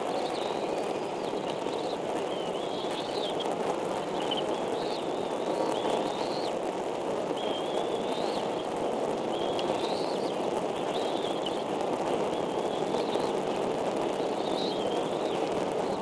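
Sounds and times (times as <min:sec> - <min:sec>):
eagle chicks peeping: 0:00.0 - 0:06.6, 0:07.3 - 0:16.0
steady rushing background noise: 0:00.0 - 0:16.0.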